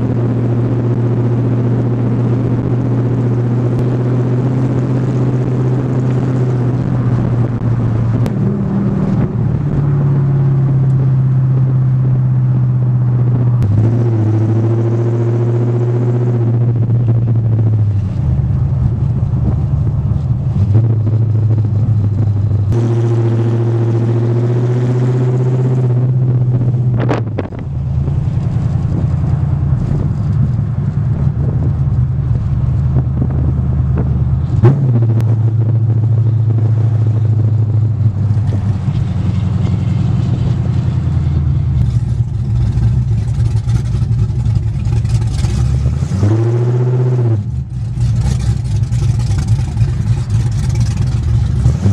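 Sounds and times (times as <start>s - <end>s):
loud car exhaust drone: 0.0s - 51.9s.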